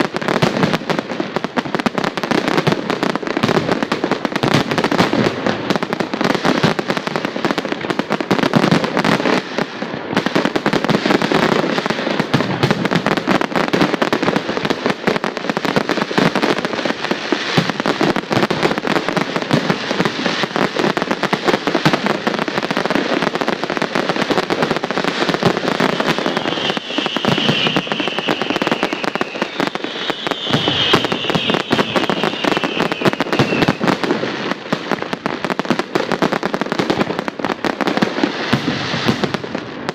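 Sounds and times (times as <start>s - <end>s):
fireworks bursting and crackling: 0.0s - 39.9s
fireworks falling whistles: 0.0s - 39.9s.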